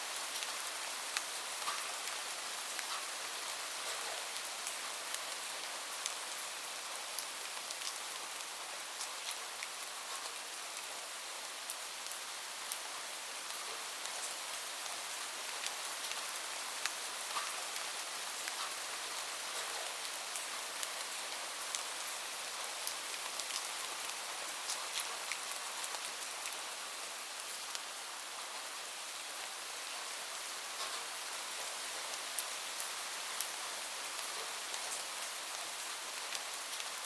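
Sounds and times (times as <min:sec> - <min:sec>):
steady rain: 0:00.0 - 0:37.0
raindrops ticking on a surface: 0:00.1 - 0:11.0, 0:11.6 - 0:28.0, 0:30.7 - 0:37.0.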